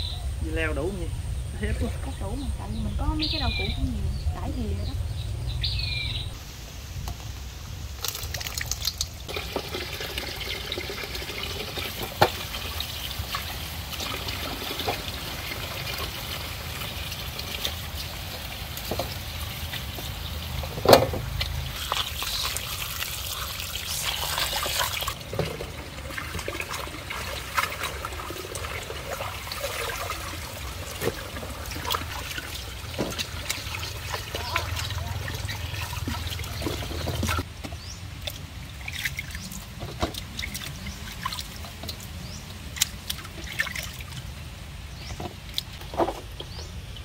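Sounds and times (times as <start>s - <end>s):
water pouring and trickling: 6.3s - 47.0s.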